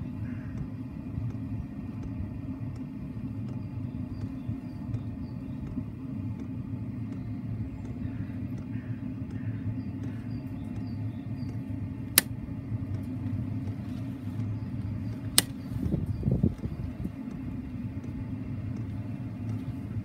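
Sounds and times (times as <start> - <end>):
rocker switch clicks: 0.2 - 13.8, 14.4 - 20.0.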